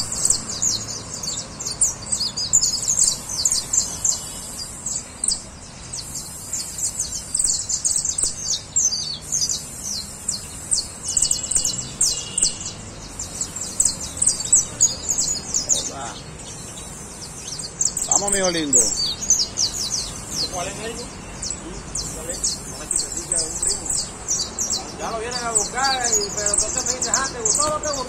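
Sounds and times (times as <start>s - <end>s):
finch singing: 0.0s - 28.0s.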